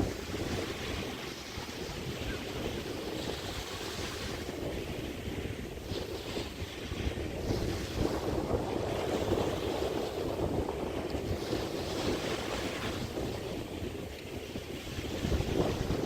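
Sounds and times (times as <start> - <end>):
small waves washing onto beach: 0.0 - 16.0
wind buffeting microphone: 0.0 - 16.0.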